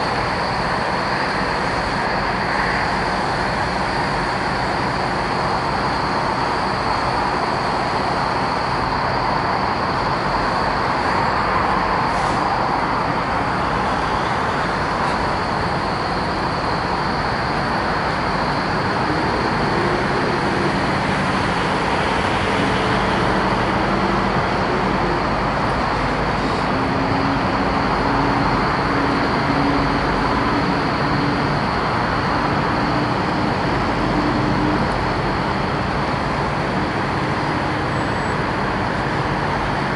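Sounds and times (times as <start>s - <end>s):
diesel truck engines idling: 0.0s - 39.9s.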